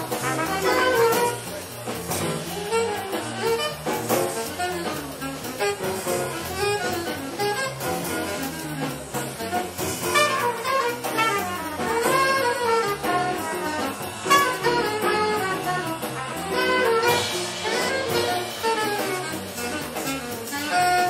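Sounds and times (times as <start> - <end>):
alto saxophone: 0.0 - 21.0
piano: 0.0 - 21.0
trumpet: 0.0 - 21.0.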